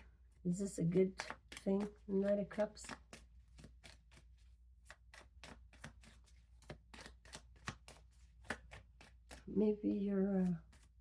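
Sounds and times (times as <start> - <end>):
cards being shuffled: 0.8 - 9.6, 10.2 - 11.0.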